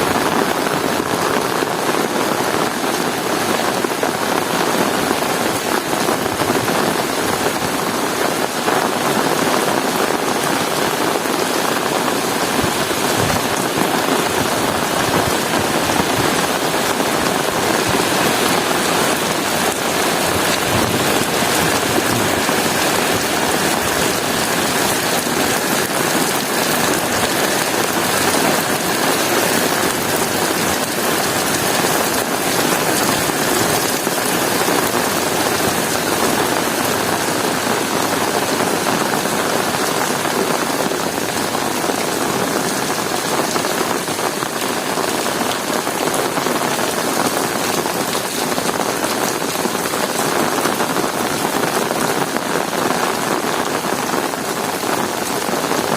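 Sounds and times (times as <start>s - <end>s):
heavy rain on hard surfaces: 0.0s - 55.9s.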